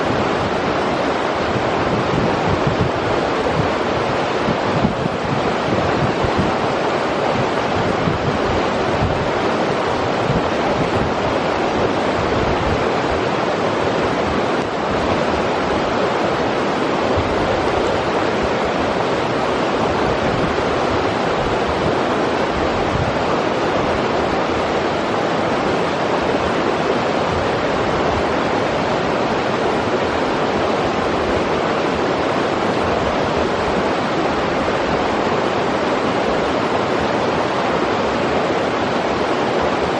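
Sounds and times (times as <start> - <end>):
river rushing over rocks: 0.0 - 39.9
wind rumbling on microphone: 0.0 - 39.9.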